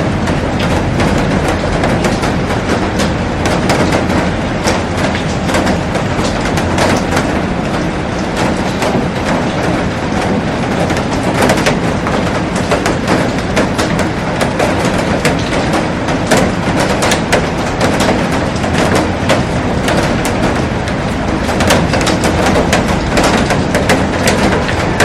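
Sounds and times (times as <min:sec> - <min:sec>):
heavy rain rushing: 0:00.0 - 0:25.0
raindrops tapping on glass: 0:00.0 - 0:25.0.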